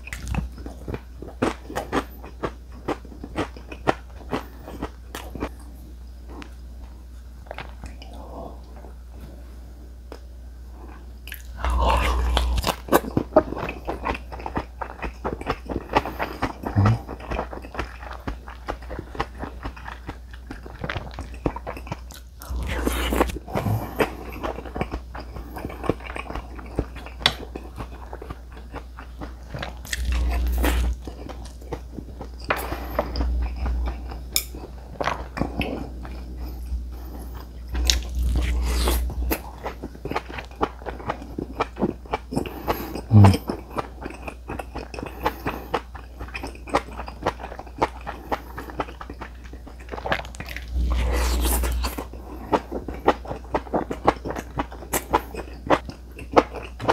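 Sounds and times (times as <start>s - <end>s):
chewing and crunching: 0.0s - 8.9s, 10.8s - 56.9s.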